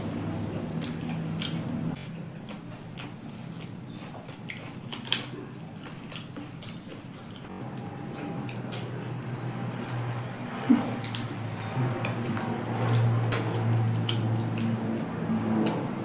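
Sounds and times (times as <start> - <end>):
low steady hum: 0.0 - 16.0
wet chewing and lip smacks: 0.8 - 16.0.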